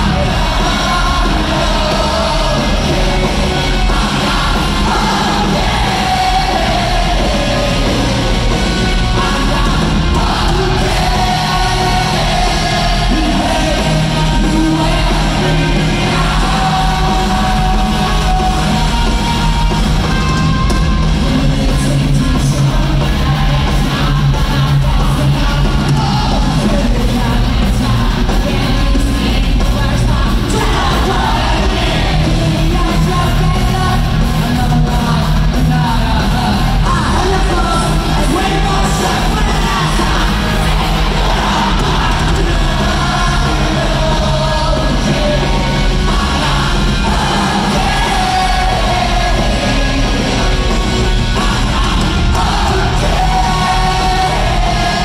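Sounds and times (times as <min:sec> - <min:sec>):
drums: 0:00.0 - 0:55.0
electric guitars: 0:00.0 - 0:55.0
person singing and shouting: 0:00.0 - 0:55.0.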